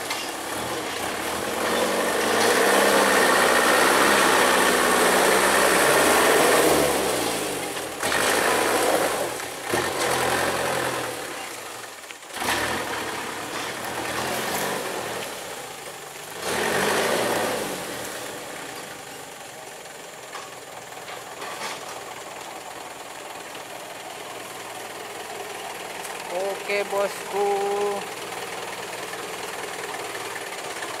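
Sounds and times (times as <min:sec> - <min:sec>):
truck engine revving: 0:00.0 - 0:20.0, 0:21.0 - 0:31.0.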